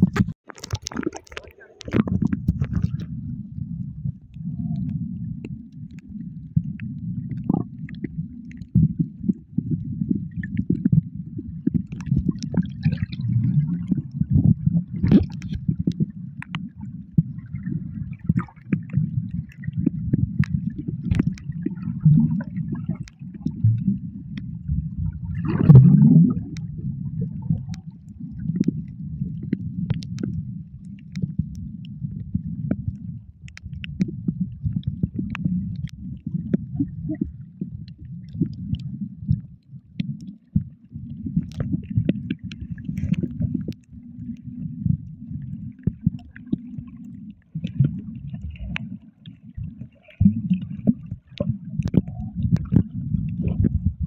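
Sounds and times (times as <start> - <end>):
underwater rumbling and gurgling: 0.0 - 54.0.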